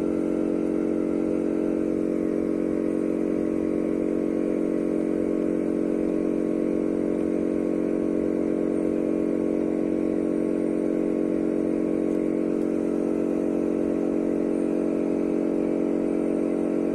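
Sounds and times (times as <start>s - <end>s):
steady buzzing drone: 0.0s - 16.9s.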